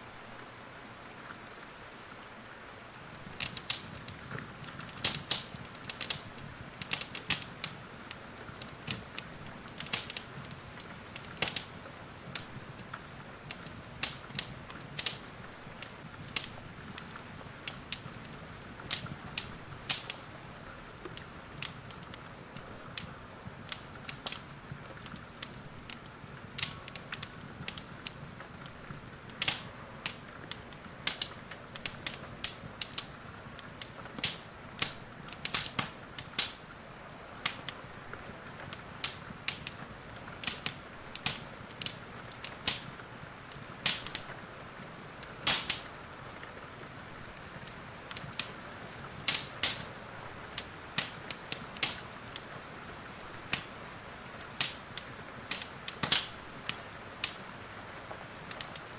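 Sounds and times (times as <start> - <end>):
steady soft hiss: 0.0 - 58.9
wood fire crackling and popping: 3.1 - 58.9.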